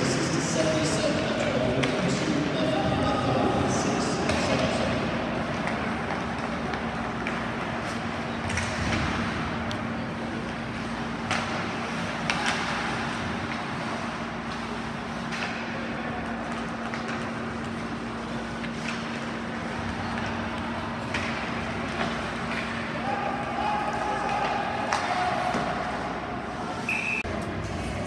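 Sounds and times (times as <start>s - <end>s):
sticks and puck clacking: 0.4s - 26.6s.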